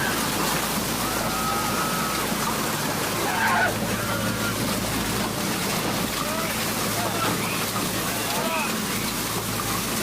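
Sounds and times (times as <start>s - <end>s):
tornado roaring: 0.0s - 9.6s.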